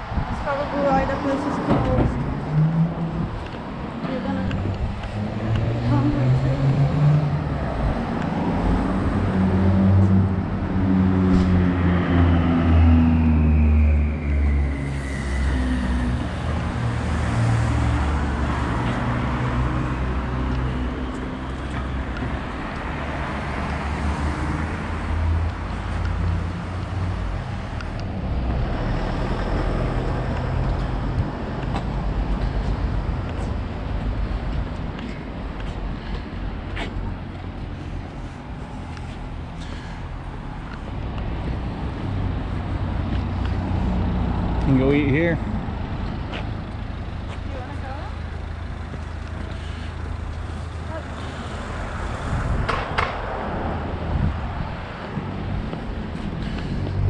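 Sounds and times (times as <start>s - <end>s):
passing vehicle whine: 0.0s - 57.0s
traffic rumble: 0.0s - 57.0s.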